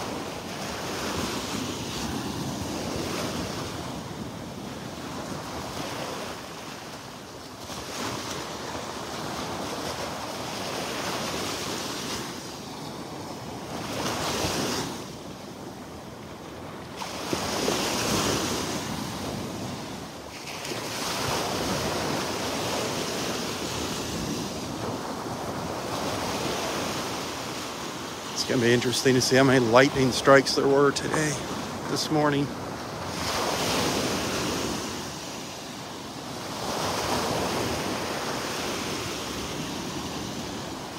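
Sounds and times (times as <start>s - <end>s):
surf washing onto beach: 0.0s - 40.9s.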